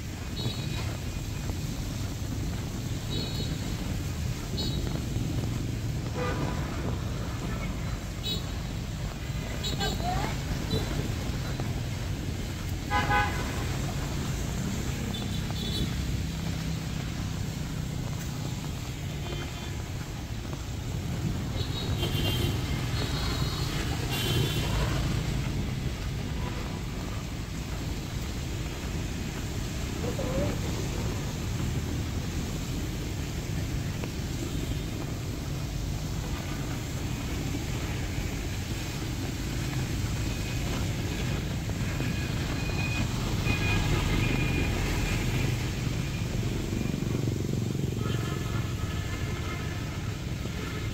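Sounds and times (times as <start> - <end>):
rain hissing: 0.0 - 50.9
vehicle passing on wet street: 0.0 - 50.9.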